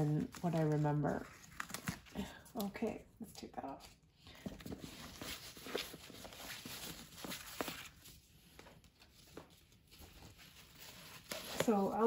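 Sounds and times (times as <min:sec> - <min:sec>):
ribbon rustling: 0:00.0 - 0:12.0.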